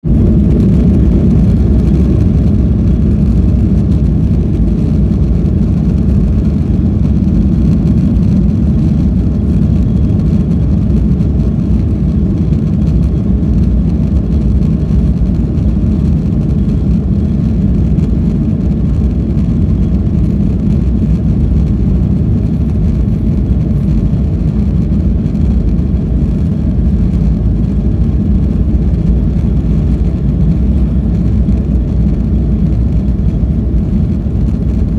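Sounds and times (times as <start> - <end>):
jet engines low rumble: 0.0 - 34.9.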